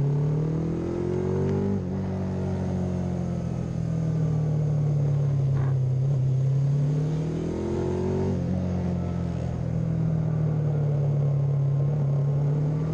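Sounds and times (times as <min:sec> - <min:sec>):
racing motorcycle engine revving: 0:00.0 - 0:12.9.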